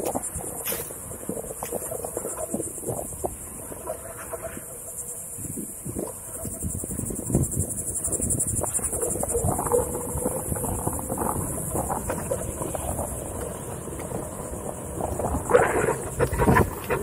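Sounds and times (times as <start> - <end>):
board rolling over sandy trail: 0.0 - 17.0
insects trilling: 0.0 - 17.0
wind buffeting microphone: 0.0 - 17.0.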